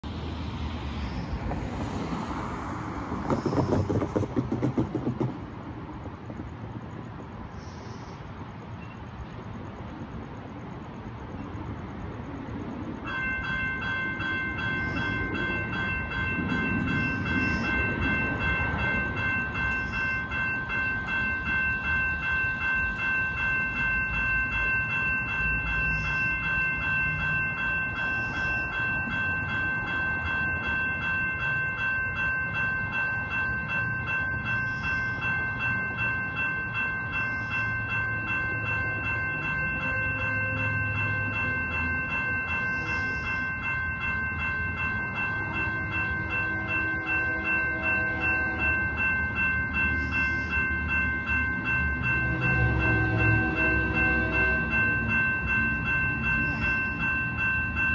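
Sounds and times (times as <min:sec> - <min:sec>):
railroad crossing bells ringing: 0:00.0 - 0:57.9.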